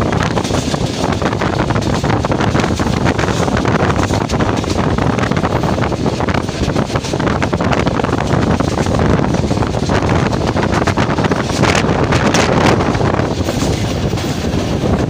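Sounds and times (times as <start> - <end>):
moving passenger train rattling: 0.0 - 15.0
wind buffeting microphone: 0.0 - 15.0.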